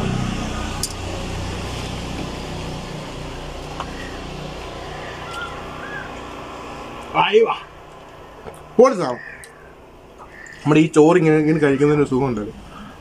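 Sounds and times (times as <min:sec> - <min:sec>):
low engine hum: 0:00.0 - 0:10.5.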